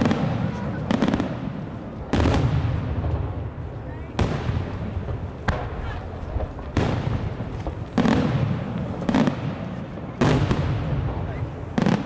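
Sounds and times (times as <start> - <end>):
low rumble of fireworks: 0.0 - 12.0.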